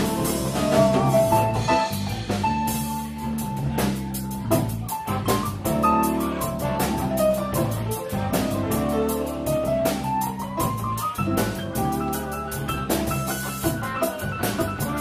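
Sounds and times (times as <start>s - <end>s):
drum kit beat: 0.0s - 15.0s
electric guitar: 0.0s - 15.0s
keyboard: 0.0s - 15.0s
rock band playing: 0.0s - 15.0s.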